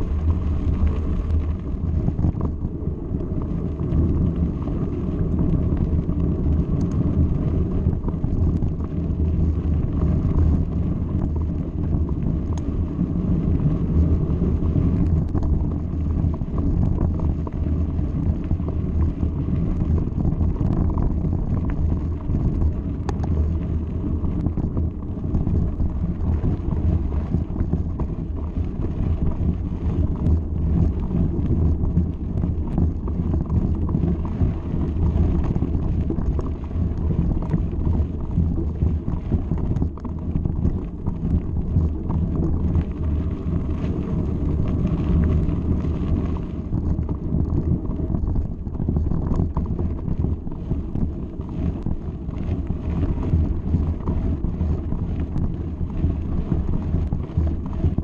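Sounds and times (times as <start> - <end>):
bike tyres rumbling on gravel: 0.0 - 58.0
wind buffeting microphone: 0.0 - 58.0.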